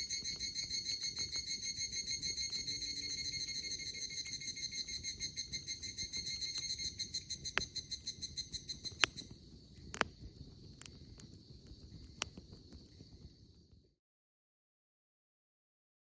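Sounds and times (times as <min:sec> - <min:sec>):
cicada trilling: 0:00.0 - 0:13.1
campfire popping and crackling: 0:00.0 - 0:13.9.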